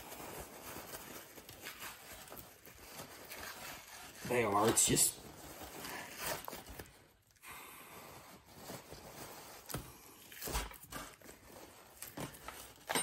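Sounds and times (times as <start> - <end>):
paper towel rustling and scraping: 0.0 - 7.2, 7.9 - 12.9.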